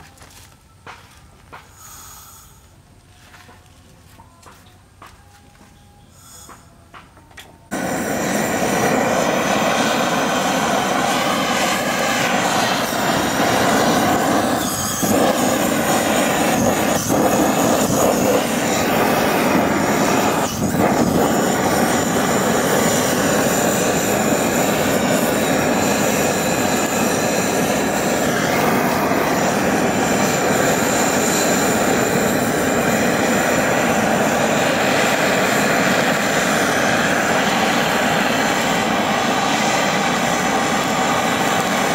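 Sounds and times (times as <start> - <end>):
blowtorch hissing: 7.7 - 41.9.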